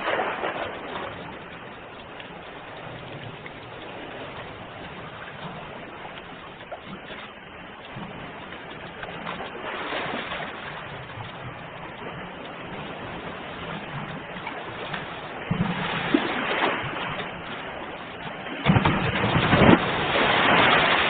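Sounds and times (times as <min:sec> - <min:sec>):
ocean waves washing in: 0:00.0 - 0:21.0
waves splashing: 0:00.0 - 0:21.0.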